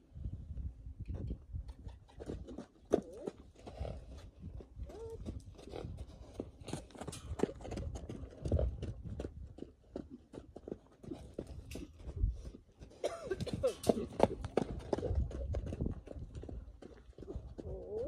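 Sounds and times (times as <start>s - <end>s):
horse hoofbeats on dirt: 1.8s - 18.0s.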